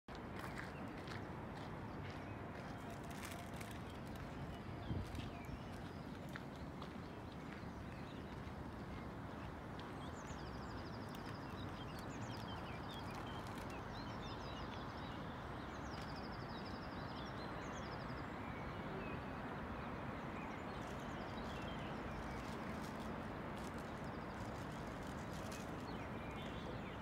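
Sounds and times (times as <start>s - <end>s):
songbirds singing: 0.4s - 27.0s.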